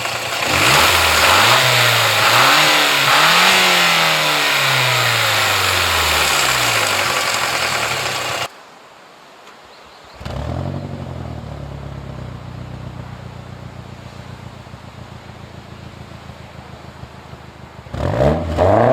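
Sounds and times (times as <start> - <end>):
car engine revving and idling: 0.0 - 8.5, 10.2 - 18.9.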